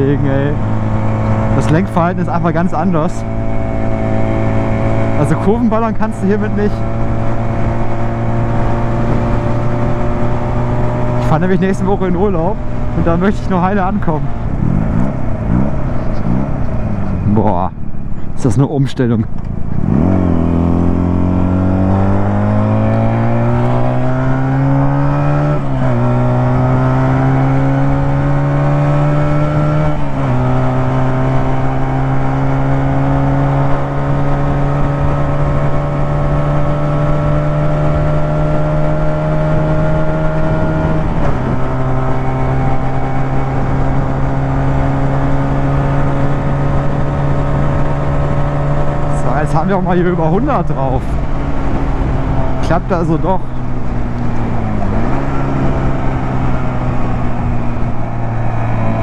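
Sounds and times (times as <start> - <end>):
motorcycle engine accelerating: 0.0 - 18.3, 19.1 - 59.0.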